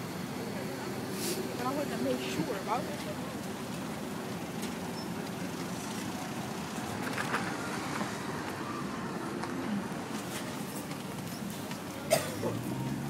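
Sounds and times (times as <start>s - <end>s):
hum of cars on road: 0.0s - 13.0s.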